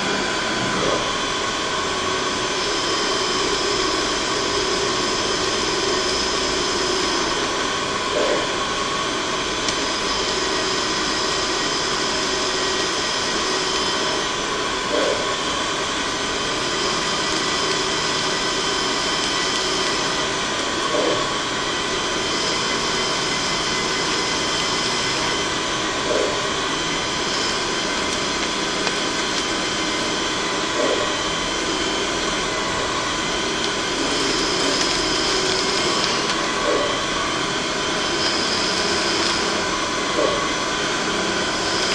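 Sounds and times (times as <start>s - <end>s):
higher whine: 0.0s - 41.9s
machine tool whine and hiss: 0.0s - 41.9s.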